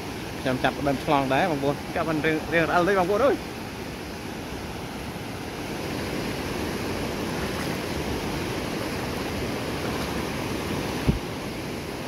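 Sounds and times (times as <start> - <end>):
water rushing over spillway: 0.0 - 12.0.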